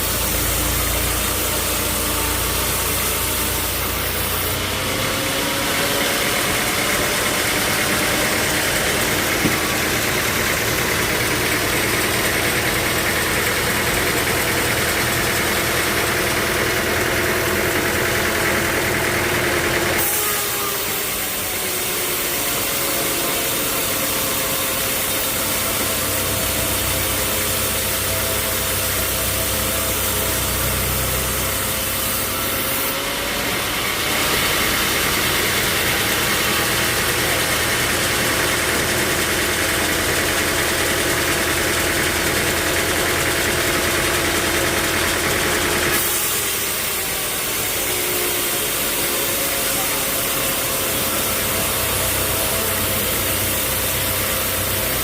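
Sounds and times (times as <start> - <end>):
sawmill motor drone: 0.0 - 55.0.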